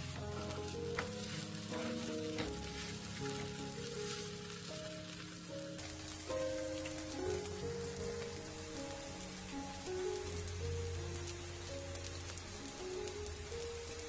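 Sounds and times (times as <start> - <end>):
patties sizzling in oil: 0.0 - 14.0.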